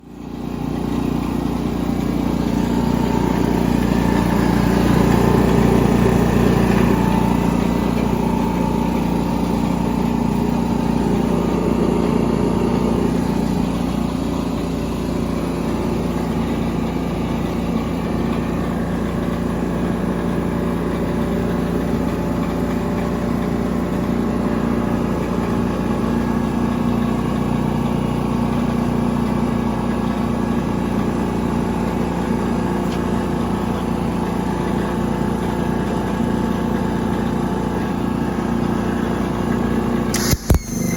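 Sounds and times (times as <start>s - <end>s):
welder engine running: 0.0s - 40.9s.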